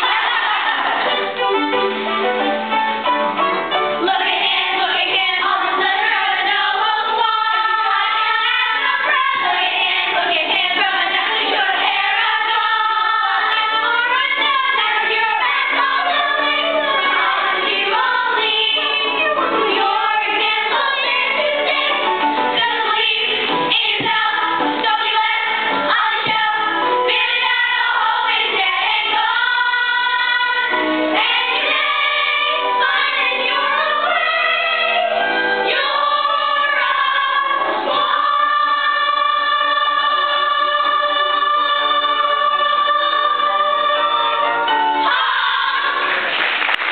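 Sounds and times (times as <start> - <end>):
children singing chorus: 0.0 - 1.2, 4.1 - 46.2
musical accompaniment: 0.0 - 46.9.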